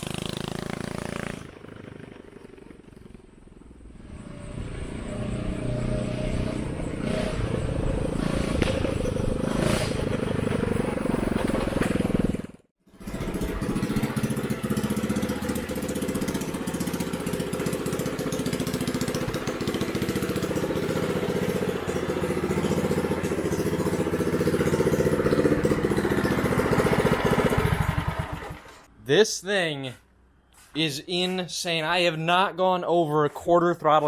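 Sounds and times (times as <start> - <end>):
single-cylinder engine running: 0.0 - 28.9.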